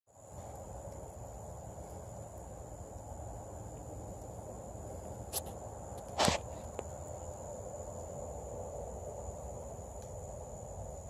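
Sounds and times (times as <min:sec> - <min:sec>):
crickets chirring: 0:00.1 - 0:11.0
low steady rush: 0:00.2 - 0:11.0.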